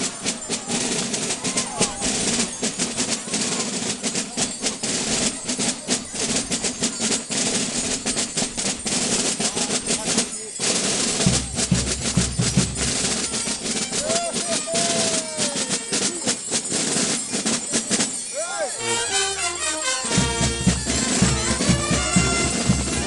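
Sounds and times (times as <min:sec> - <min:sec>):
deep drum beats: 0:00.0 - 0:18.2, 0:18.8 - 0:23.0
bells jingling: 0:00.0 - 0:23.0
street drum rolls: 0:00.0 - 0:23.0.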